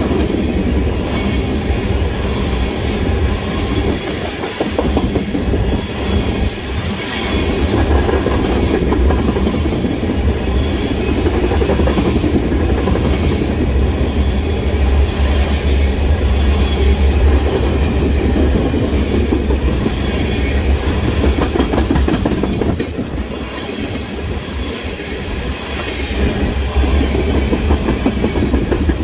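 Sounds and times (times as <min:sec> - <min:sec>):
low rumble of train wheels: 0:00.0 - 0:29.0.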